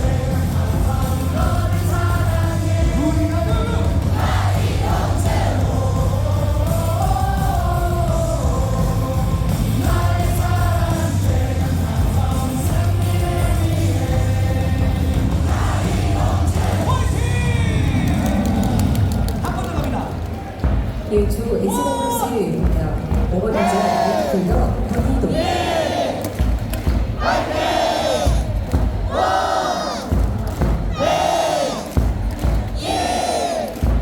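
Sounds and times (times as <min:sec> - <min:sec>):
cheer song over loudspeakers: 0:00.0 - 0:34.0.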